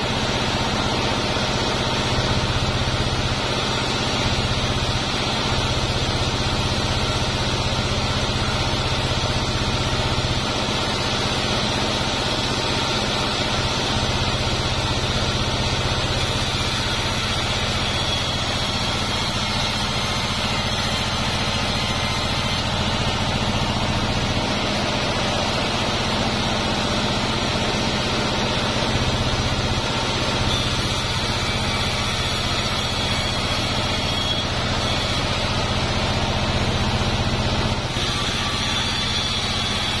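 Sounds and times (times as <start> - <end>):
band saw drone: 0.0 - 40.0.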